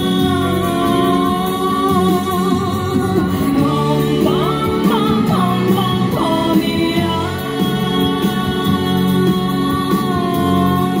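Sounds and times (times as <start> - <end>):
instrumental backing music: 0.0 - 11.0
woman singing into microphone: 0.0 - 11.0.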